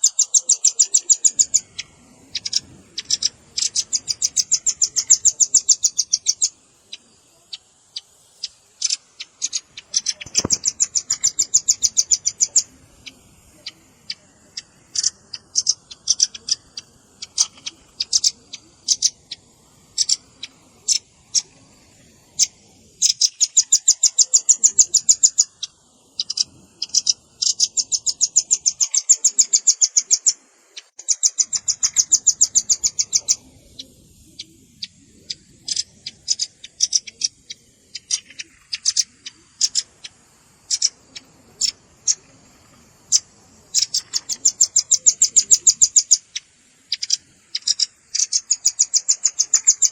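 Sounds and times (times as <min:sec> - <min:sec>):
bird rapid trills: 0:00.0 - 0:49.9.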